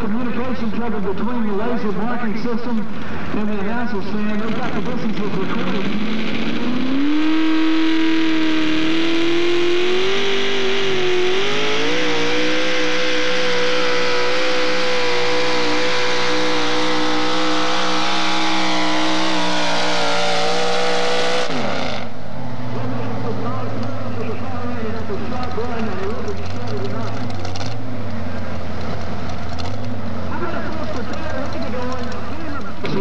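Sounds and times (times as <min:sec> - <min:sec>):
truck engine at full throttle: 0:00.0 - 0:33.0.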